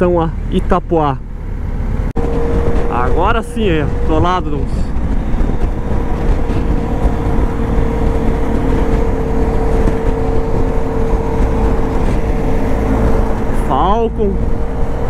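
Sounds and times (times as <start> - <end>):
motorcycle engine cruising: 0.0 - 15.0
wind rush on microphone: 1.2 - 15.0.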